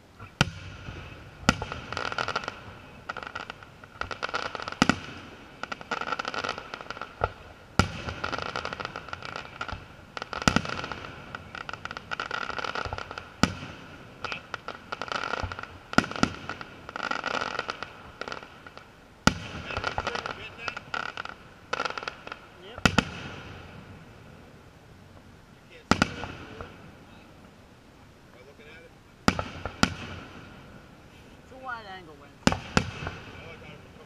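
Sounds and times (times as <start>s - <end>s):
crackling of firework stars: 0.0s - 34.0s
firework shells bursting: 0.2s - 24.1s, 25.1s - 27.1s, 29.2s - 30.8s, 32.4s - 34.0s.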